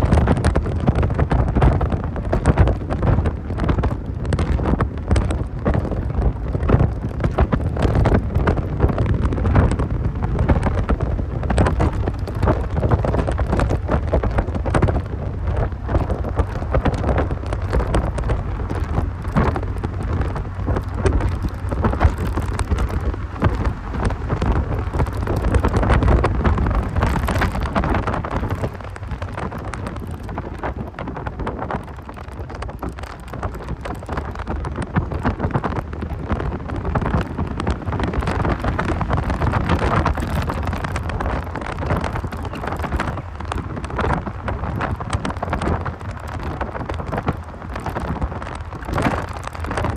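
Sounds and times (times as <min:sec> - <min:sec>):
car rumbling on the move: 0:00.0 - 0:49.9
wind buffeting the microphone: 0:00.0 - 0:49.9.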